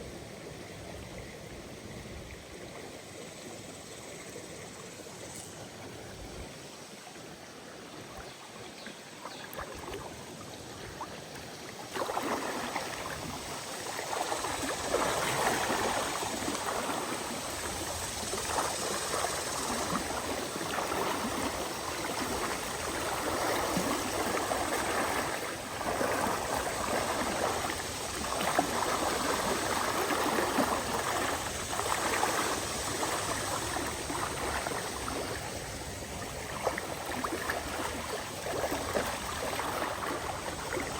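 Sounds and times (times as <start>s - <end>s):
river water flowing and splashing: 0.0s - 40.9s.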